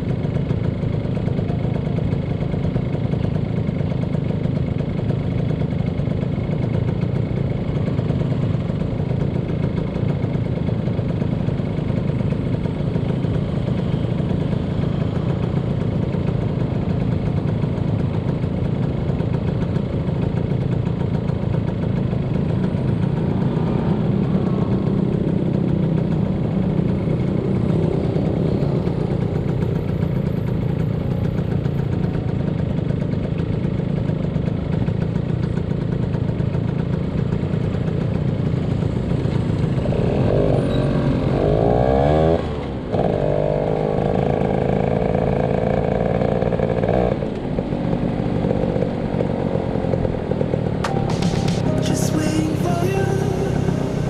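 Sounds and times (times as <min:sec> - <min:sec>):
motorcycle engine droning: 0:00.0 - 0:54.0
road and wind noise: 0:00.0 - 0:54.0.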